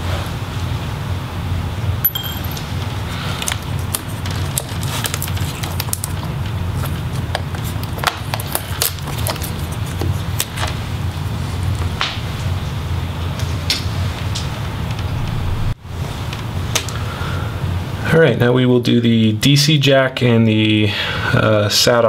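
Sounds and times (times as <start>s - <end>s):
steady low hum: 0.0s - 21.7s.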